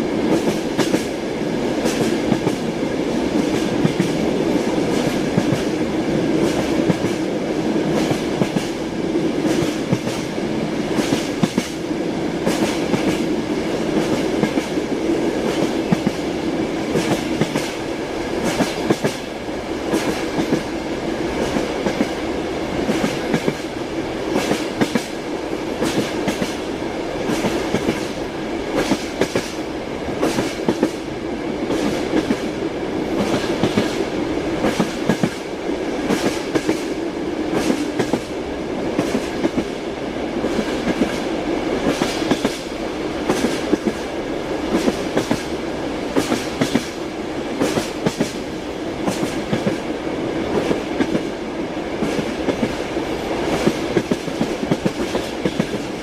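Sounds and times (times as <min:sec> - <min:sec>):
train wheels clattering over rails: 0:00.0 - 0:56.0.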